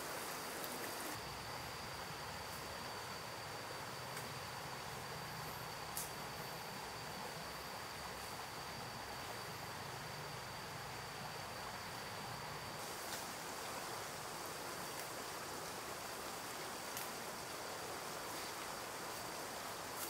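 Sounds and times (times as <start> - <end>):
high insect tone: 0.0 - 20.0
rainforest hiss: 0.0 - 20.0.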